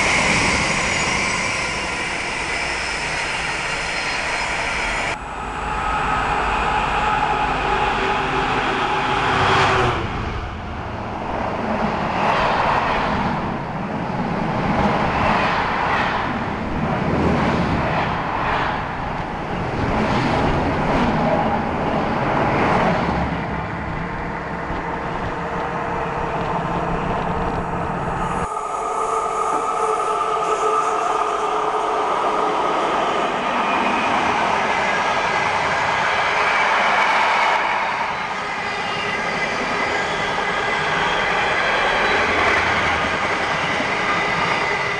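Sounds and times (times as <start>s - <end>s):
locomotive hum: 0.0s - 15.0s, 16.3s - 44.9s
train wheels rumbling on rails: 0.0s - 44.9s.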